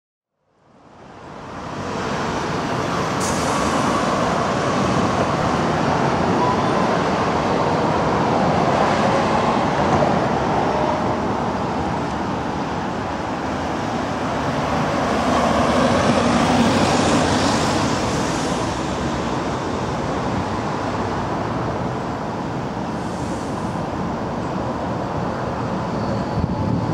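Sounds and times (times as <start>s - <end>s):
cars and vans passing: 0.6s - 26.9s.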